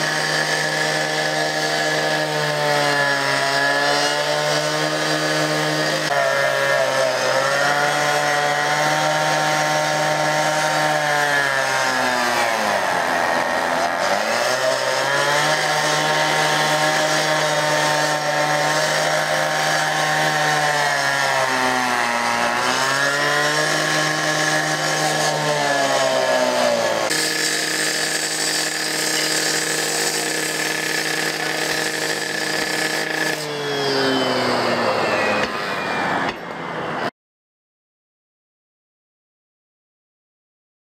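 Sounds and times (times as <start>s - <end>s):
harsh grinding: 0.0s - 36.4s
cut-off saw cutting metal: 0.0s - 37.1s.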